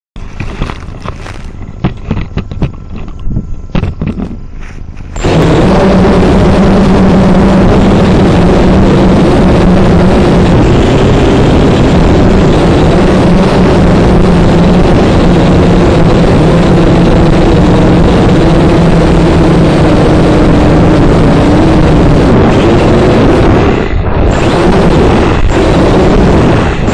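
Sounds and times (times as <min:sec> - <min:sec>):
quadcopter propellers buzzing: 0:05.0 - 0:26.9.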